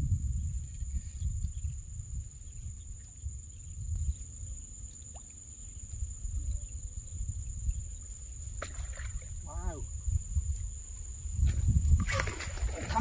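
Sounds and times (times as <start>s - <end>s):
wind buffeting microphone: 0.0s - 4.9s, 5.5s - 13.0s.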